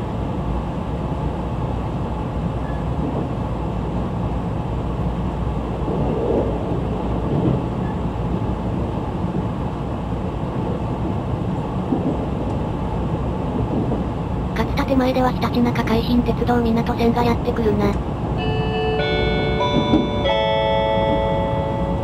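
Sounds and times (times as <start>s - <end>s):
electric train running rumble: 0.0s - 22.0s.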